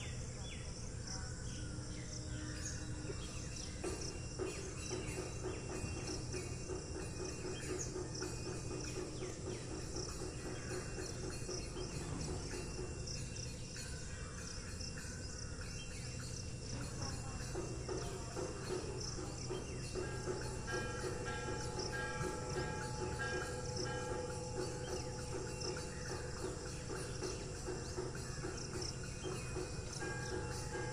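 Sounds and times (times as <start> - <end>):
insect chirring: 0.0 - 30.9.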